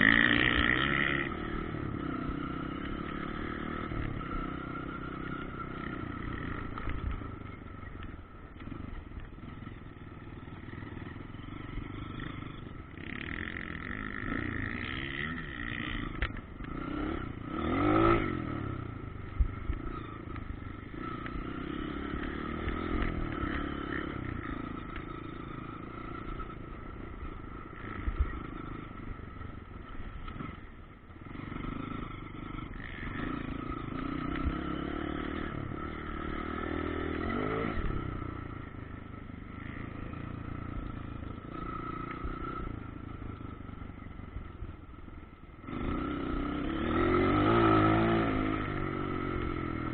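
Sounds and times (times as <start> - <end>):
motocross bikes revving past: 0.0 - 7.8, 10.5 - 44.6, 45.6 - 49.9.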